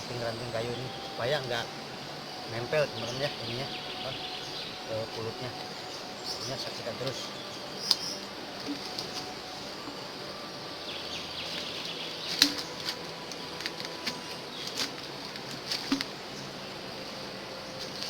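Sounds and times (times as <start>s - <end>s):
twigs clicking and tapping: 0.0s - 10.0s, 11.3s - 18.0s
high insect drone: 0.0s - 18.0s.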